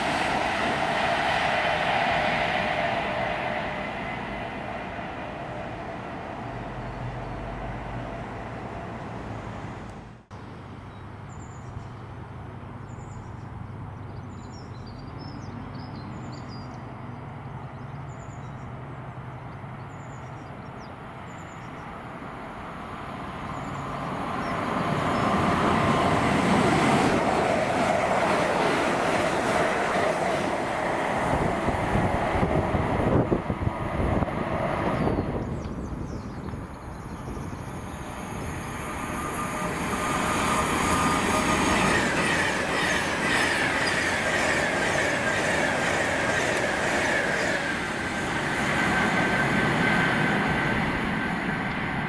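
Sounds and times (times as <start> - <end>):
train rumble and rail noise: 0.0 - 52.0.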